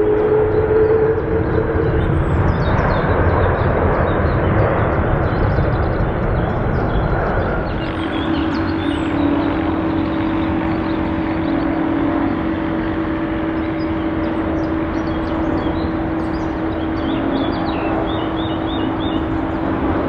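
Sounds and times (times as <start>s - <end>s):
jet engine drone: 0.0s - 20.0s.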